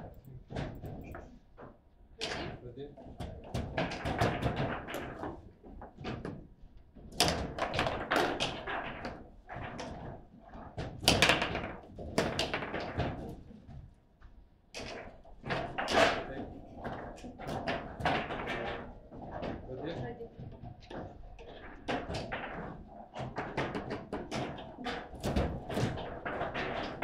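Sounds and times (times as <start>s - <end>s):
table football clacks and knocks: 0.0s - 27.0s.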